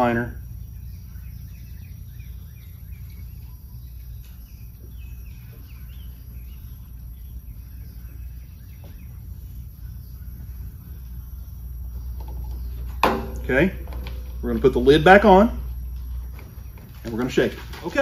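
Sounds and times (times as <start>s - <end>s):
faint bird chirps: 0.0s - 17.5s
low background hum: 0.0s - 18.0s.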